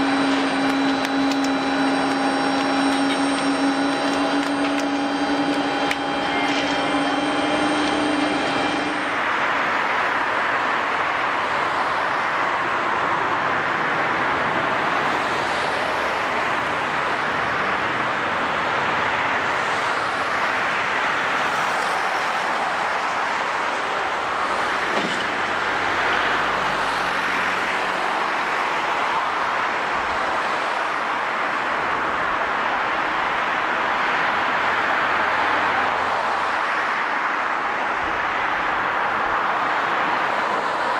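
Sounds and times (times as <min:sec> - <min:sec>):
jet engine roar: 0:00.0 - 0:40.9.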